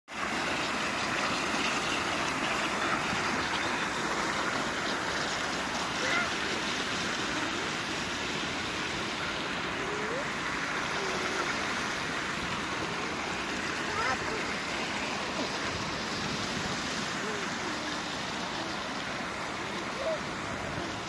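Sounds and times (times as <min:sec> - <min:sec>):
fountain splashing into pool: 0:00.1 - 0:21.0.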